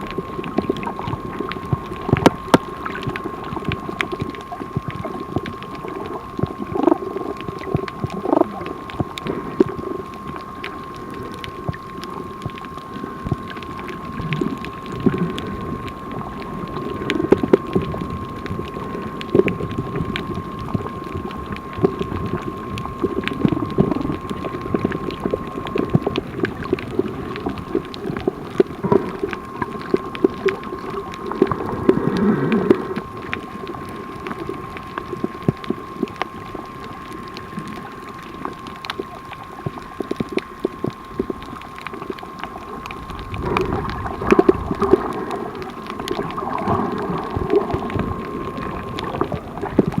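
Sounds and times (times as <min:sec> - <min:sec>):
high-pitched whine: 0:00.0 - 0:50.0
water moving underwater: 0:00.0 - 0:50.0.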